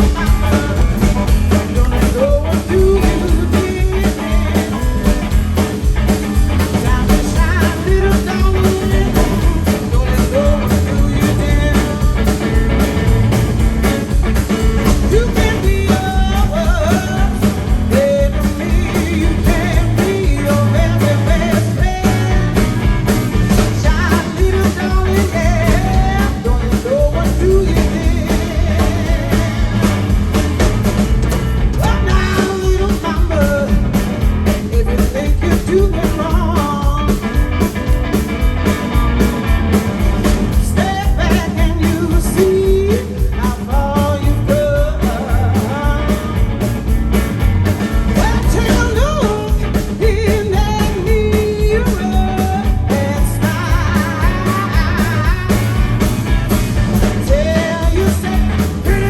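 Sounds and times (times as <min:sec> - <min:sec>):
bass: 0:00.0 - 0:59.0
live blues band: 0:00.0 - 0:59.0
steady drum beat: 0:00.0 - 0:59.0.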